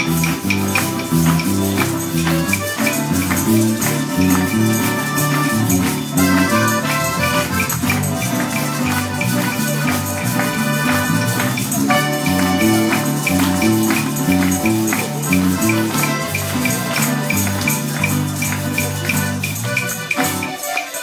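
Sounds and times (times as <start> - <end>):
bass line: 0.0 - 20.2
accordion: 0.0 - 21.0
guitars: 0.0 - 21.0
tambourines: 0.0 - 21.0.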